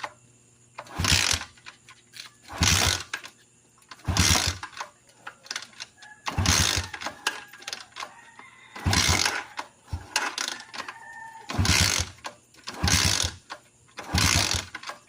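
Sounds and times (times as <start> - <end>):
motorcycle engine cranking: 0.8 - 15.0.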